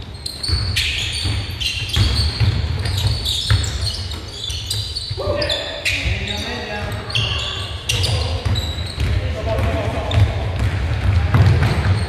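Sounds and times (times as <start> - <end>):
basketball bouncing: 0.0 - 5.4, 6.0 - 12.0
sneakers squeaking on court: 0.0 - 12.0.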